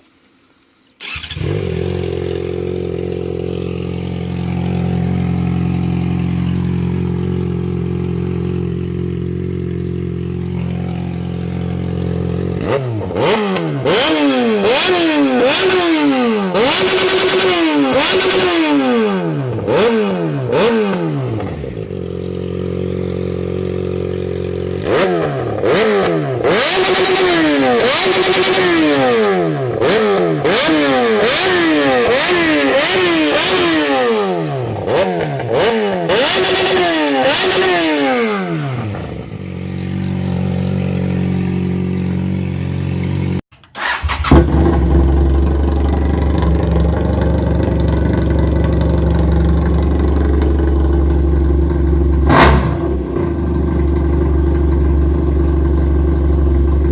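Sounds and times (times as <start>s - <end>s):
motorcycle engine revving and idling: 1.0s - 56.9s.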